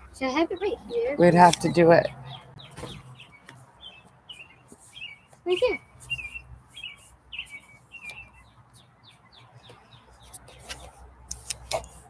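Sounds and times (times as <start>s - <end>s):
small bird chirping: 0.1s - 11.7s.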